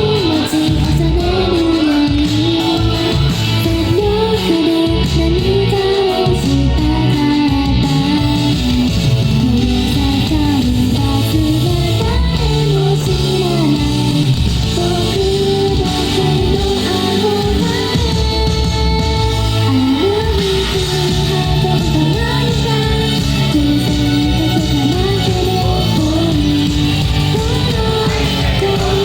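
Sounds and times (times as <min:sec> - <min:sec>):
backing track with guitar: 0:00.0 - 0:29.0
woman singing: 0:00.0 - 0:29.0.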